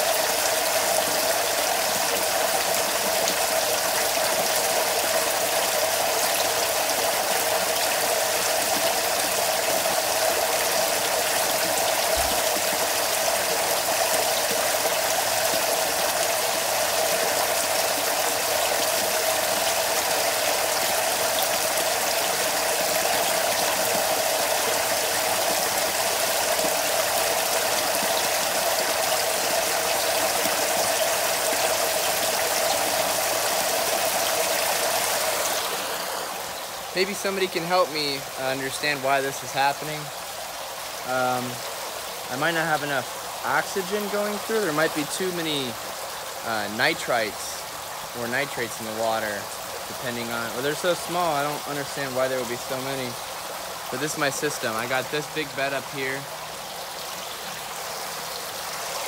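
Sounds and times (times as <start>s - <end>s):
water pouring into a tank: 0.0s - 59.0s.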